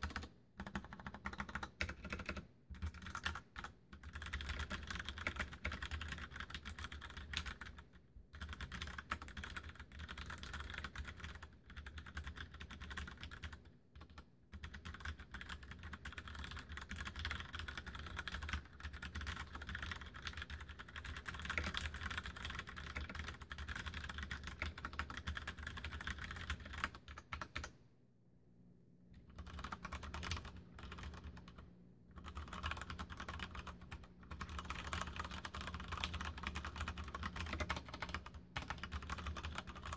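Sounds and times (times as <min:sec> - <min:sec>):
mechanical keyboard typing: 0:00.0 - 0:27.7, 0:29.2 - 0:39.9.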